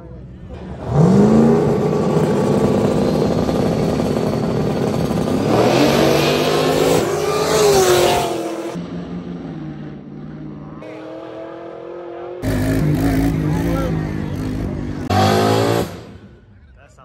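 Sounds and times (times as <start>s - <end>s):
racing car engines revving: 0.0s - 16.7s.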